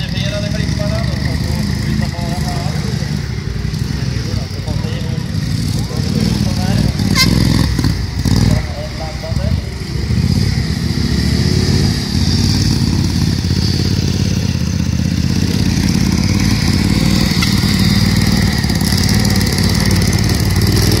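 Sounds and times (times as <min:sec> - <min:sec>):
lawn mower engines drone: 0:00.0 - 0:21.0.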